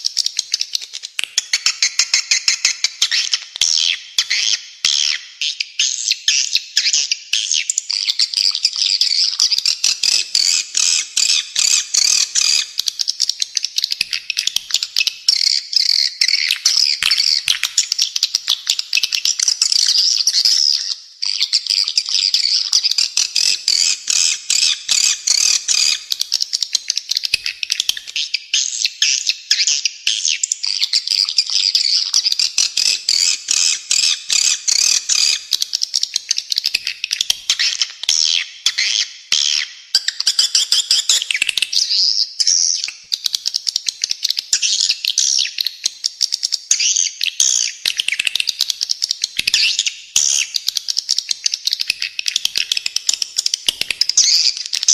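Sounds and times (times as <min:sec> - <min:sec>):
bird song: 0:00.0 - 0:54.9.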